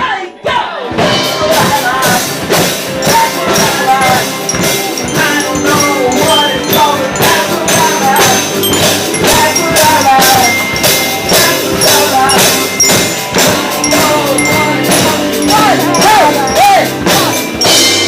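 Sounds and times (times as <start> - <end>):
drum kit beat: 0.9 - 18.0
sustained chords and bass: 2.1 - 18.0.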